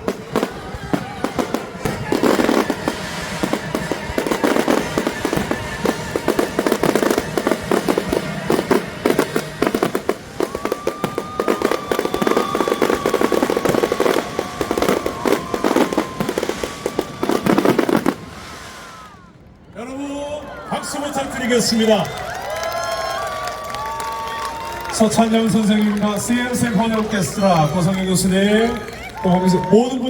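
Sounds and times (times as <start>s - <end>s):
fireworks popping and banging: 0.0s - 19.2s, 22.2s - 30.0s.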